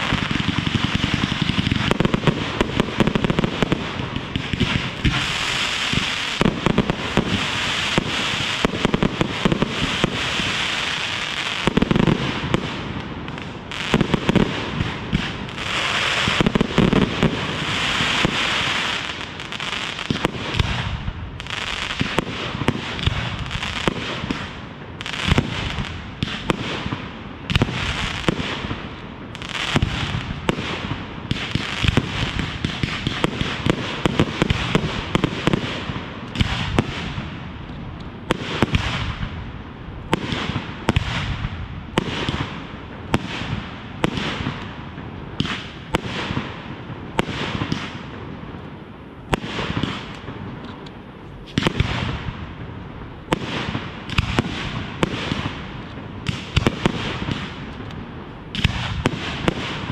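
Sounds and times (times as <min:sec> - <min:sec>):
continuous hiss: 0:00.0 - 0:59.9
fireworks bangs: 0:00.0 - 0:59.9
fireworks crackling: 0:00.0 - 0:59.9.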